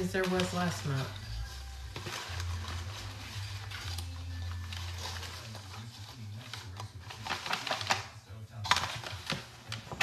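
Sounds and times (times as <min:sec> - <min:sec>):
paper tickets rustling in jar: 0:00.0 - 0:10.0.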